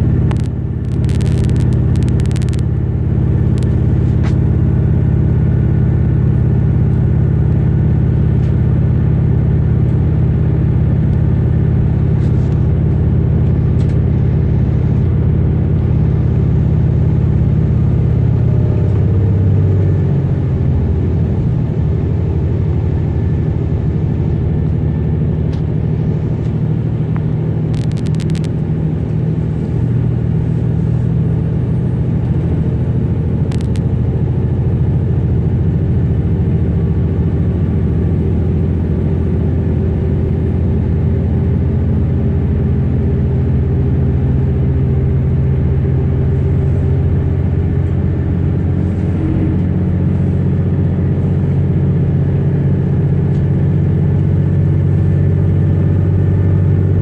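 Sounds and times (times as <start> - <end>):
electric train rumble: 0.0 - 57.0.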